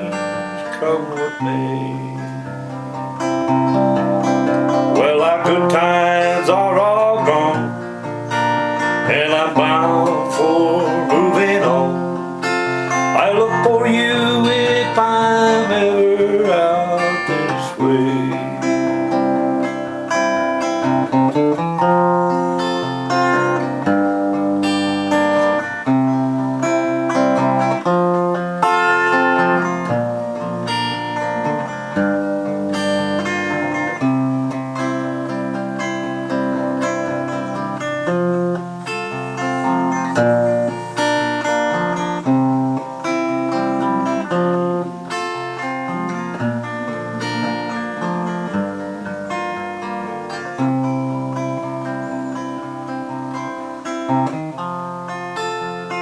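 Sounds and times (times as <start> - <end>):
acoustic guitar picking: 0.0 - 56.0.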